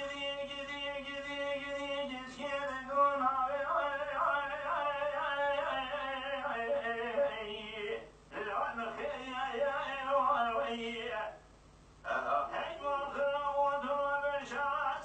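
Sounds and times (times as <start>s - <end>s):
man singing ornamented notes: 0.0s - 11.4s, 12.0s - 15.0s.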